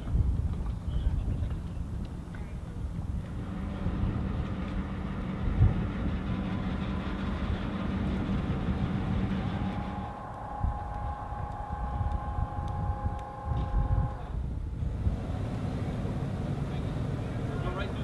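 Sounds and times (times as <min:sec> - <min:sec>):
diesel engine low hum: 0:00.0 - 0:18.0.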